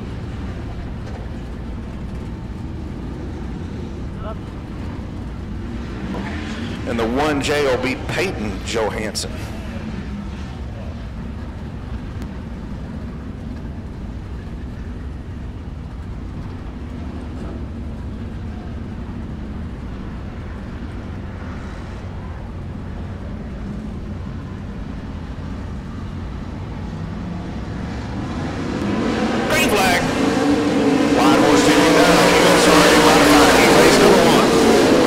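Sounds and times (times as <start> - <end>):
race car engines rumbling: 0.0 - 35.0.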